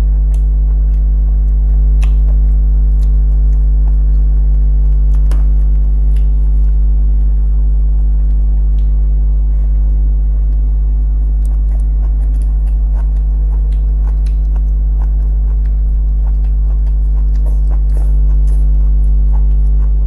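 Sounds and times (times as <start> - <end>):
chewing and crunching: 0.0 - 20.0
loud steady low hum: 0.0 - 20.0.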